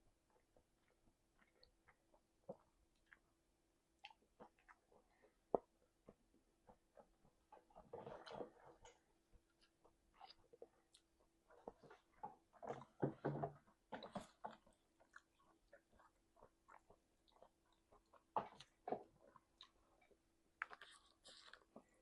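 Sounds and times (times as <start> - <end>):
wet chewing and smacking: 0.2 - 22.0.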